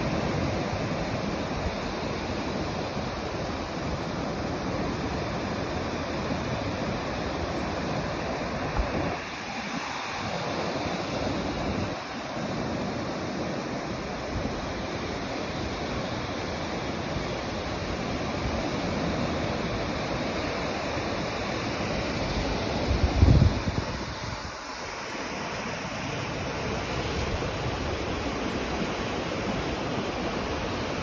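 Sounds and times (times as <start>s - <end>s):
wind on microphone: 0.0s - 25.0s
ocean surf breaking: 0.0s - 31.0s.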